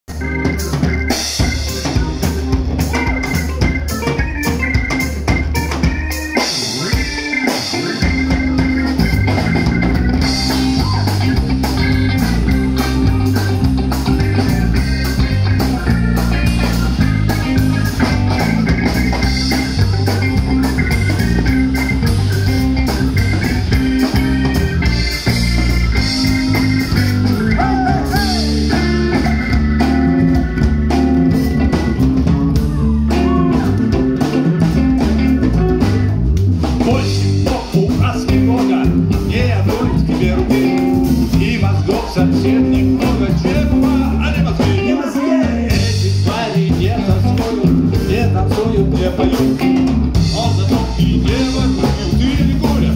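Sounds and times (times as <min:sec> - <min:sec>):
bass line: 0:00.0 - 0:52.9
live band playing: 0:00.0 - 0:52.9
drum kit beat: 0:00.1 - 0:52.9.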